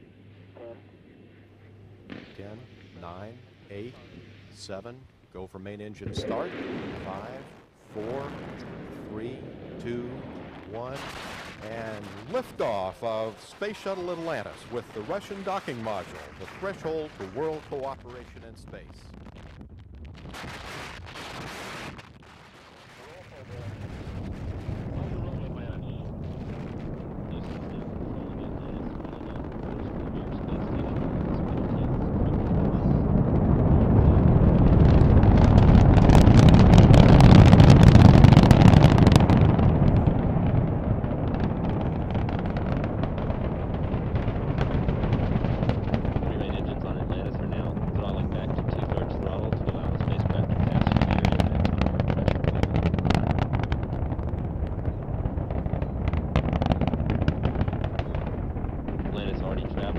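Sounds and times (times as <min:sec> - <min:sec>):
rocket launch rumble with crackling: 0:00.0 - 0:59.9.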